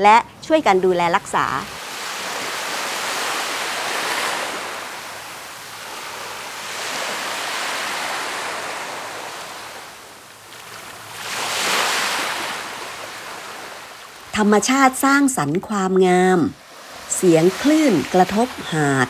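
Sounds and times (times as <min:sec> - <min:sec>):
small waves washing up beach: 0:01.2 - 0:15.0, 0:16.4 - 0:19.0.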